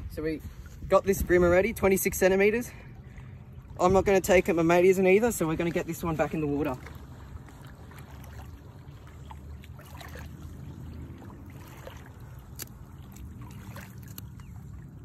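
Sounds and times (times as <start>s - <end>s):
low steady rumble: 0.0s - 15.0s
water lapping and splashing: 0.0s - 15.0s.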